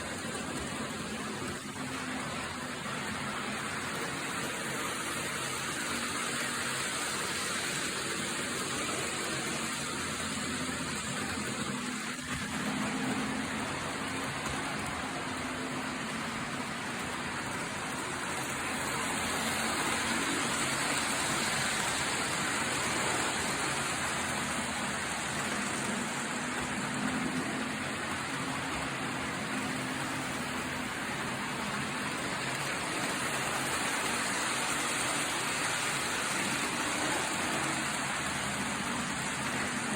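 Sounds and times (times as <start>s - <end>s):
constant hiss: 0.0s - 39.9s
diesel locomotive engine hum: 0.0s - 39.9s.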